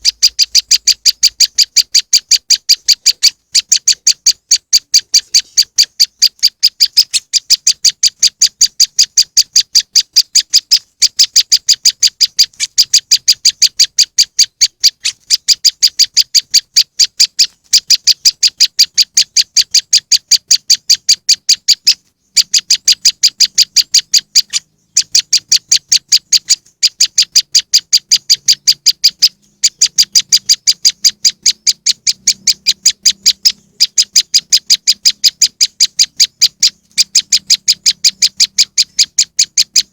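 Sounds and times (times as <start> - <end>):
recorded bird chirps: 0.0 - 39.9.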